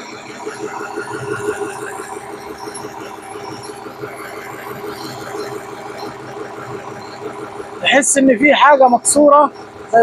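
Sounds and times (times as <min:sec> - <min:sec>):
excavator rapid rattle: 0:00.0 - 0:10.0.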